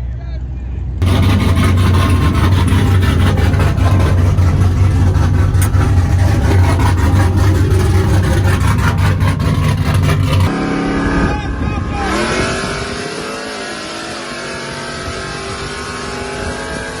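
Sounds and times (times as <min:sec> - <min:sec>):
loud vehicle engine droning: 0:01.0 - 0:17.0.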